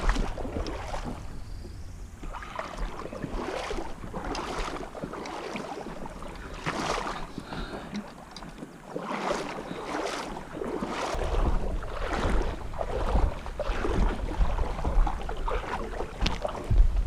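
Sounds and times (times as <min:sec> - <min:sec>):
footsteps wading in creek: 0:00.0 - 0:17.0.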